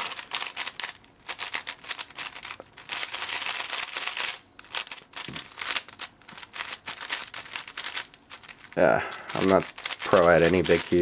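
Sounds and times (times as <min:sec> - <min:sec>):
puzzle cube clicking: 0:00.0 - 0:11.0.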